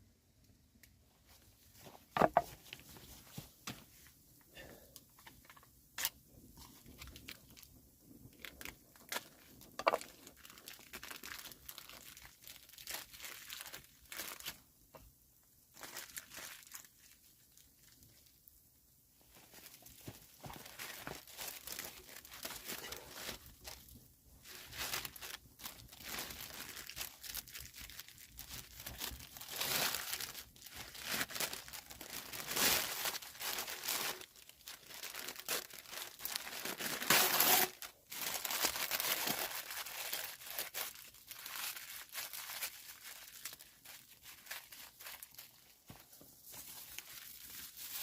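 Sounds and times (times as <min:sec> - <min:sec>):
crinkling crunching rustles: 0:05.2 - 0:14.7, 0:15.6 - 0:18.6, 0:19.2 - 0:48.0.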